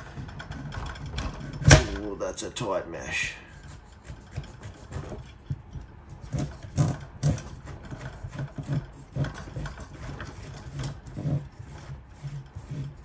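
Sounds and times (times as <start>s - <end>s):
helicopter gear grinding: 0.0s - 13.0s.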